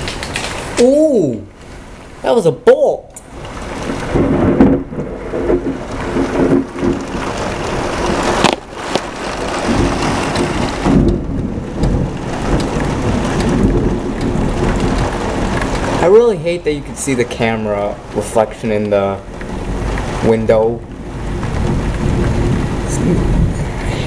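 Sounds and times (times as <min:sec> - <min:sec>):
heavy rain: 0:00.0 - 0:24.0
thunder rumbling: 0:00.0 - 0:24.0
sharp thunder crack: 0:03.3 - 0:24.0.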